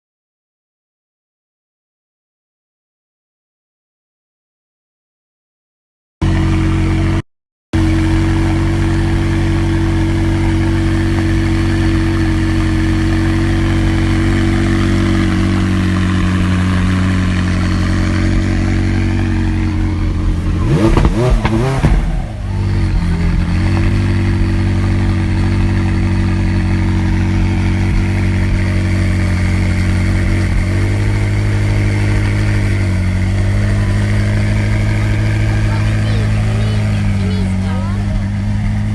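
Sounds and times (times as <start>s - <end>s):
car engine revving: 6.2s - 7.2s, 7.8s - 38.9s
sports car engine idling: 6.2s - 7.2s, 7.8s - 38.9s.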